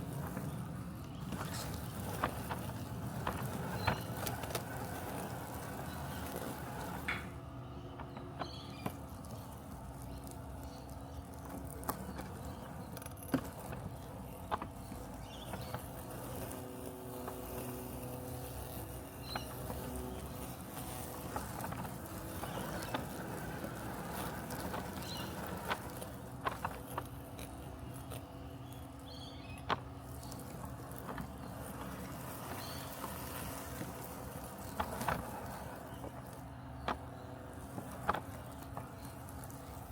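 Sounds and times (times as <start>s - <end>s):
robotic lawn mower humming: 0.0s - 39.9s.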